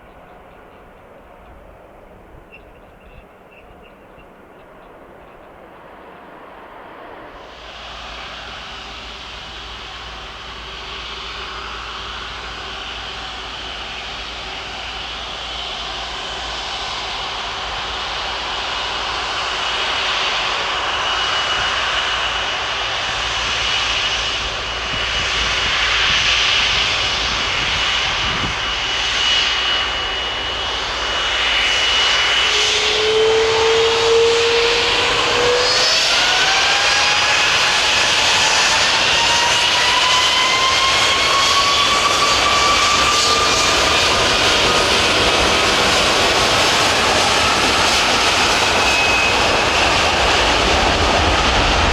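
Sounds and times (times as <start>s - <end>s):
jet engines whining: 0.0s - 51.9s.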